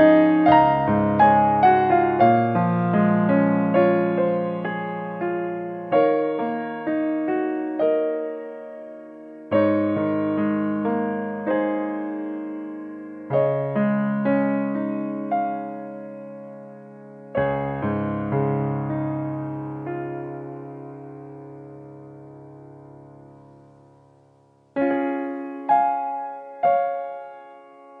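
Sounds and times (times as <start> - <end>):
gentle electric piano melody: 0.0 - 28.0.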